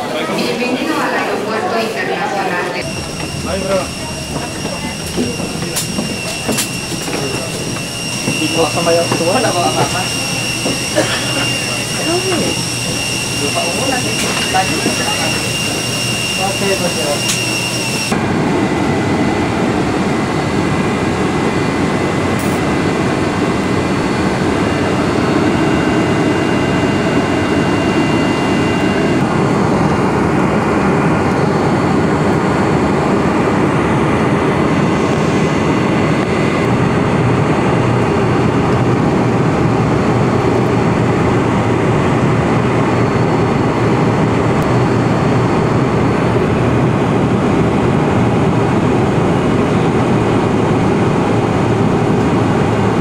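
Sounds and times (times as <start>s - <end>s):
airliner cabin hiss and hum: 2.8s - 53.0s.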